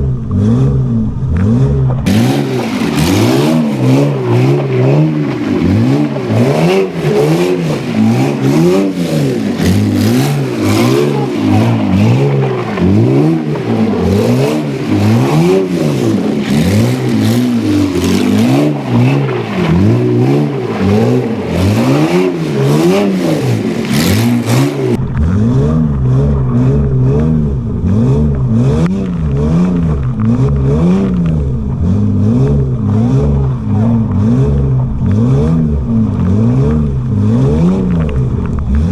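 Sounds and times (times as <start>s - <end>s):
engine revving up and down: 0.0s - 38.9s.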